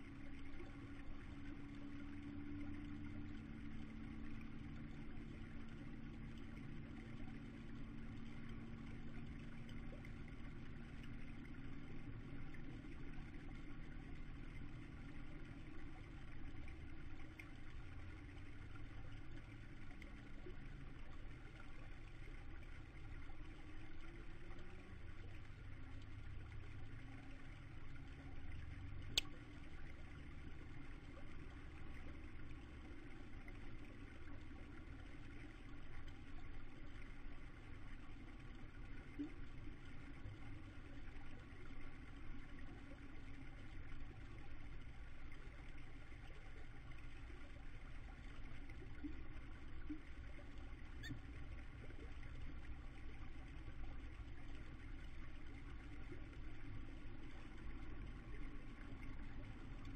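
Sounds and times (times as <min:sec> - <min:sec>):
low rumble with hum: 0:00.0 - 0:59.9.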